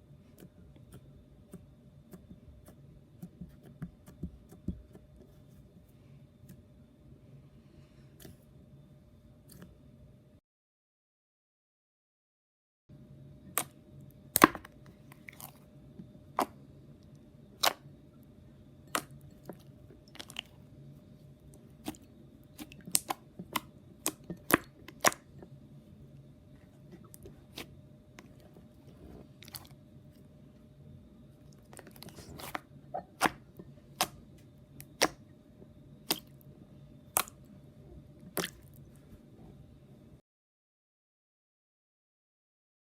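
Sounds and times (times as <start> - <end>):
faint steady hum: 0.0 - 10.4, 12.9 - 40.2.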